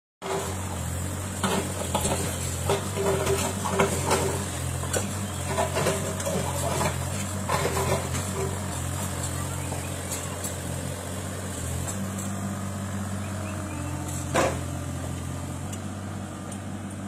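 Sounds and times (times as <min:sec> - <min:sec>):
excavator diesel engine running: 0:00.2 - 0:17.0.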